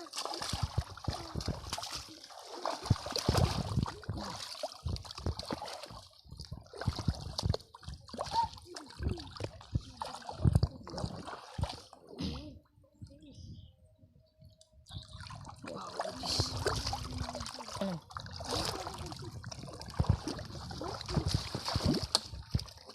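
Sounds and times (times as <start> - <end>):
shallow water splashing: 0.0 - 12.3, 14.9 - 22.9.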